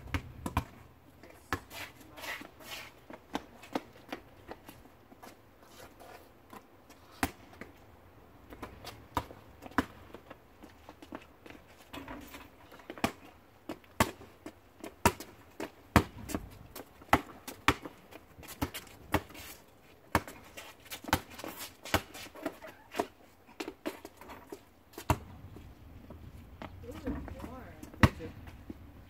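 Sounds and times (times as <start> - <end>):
basketball bouncing on asphalt: 0.0 - 1.8, 3.0 - 5.4, 6.5 - 7.8, 8.4 - 29.0.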